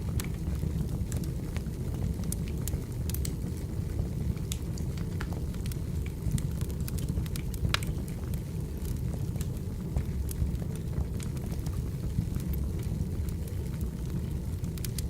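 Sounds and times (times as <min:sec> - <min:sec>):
burning logs crackling and popping: 0:00.0 - 0:15.0
fire low rumble: 0:00.0 - 0:15.0.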